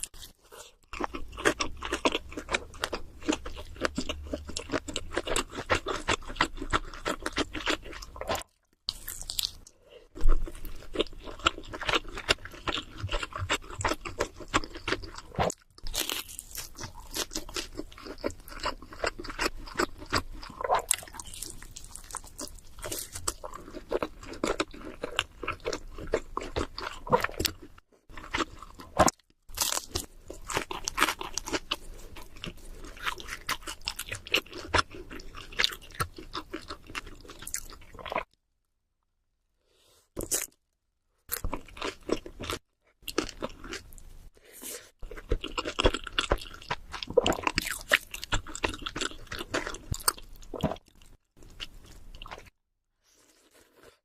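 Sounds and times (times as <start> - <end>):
crackly chewing: 0.0 - 38.4, 41.3 - 44.1, 45.0 - 54.0.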